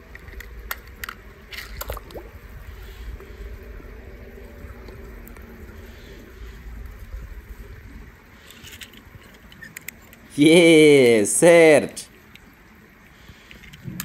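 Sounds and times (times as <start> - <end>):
faint water noise: 0.0 - 14.0.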